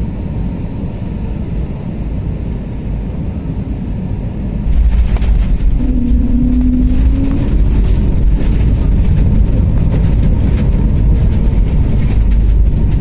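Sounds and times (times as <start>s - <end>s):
airliner landing rumble: 0.0s - 13.0s.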